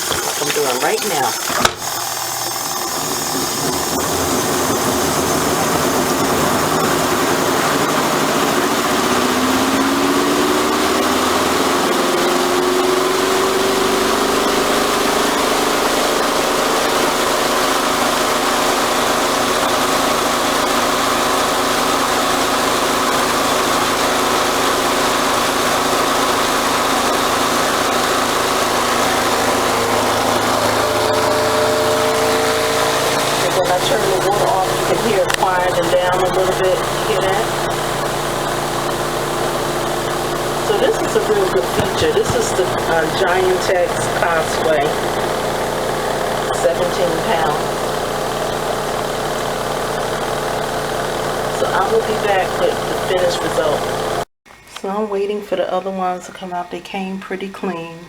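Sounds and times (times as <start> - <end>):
washing machine motor hum: 0.0 - 54.3.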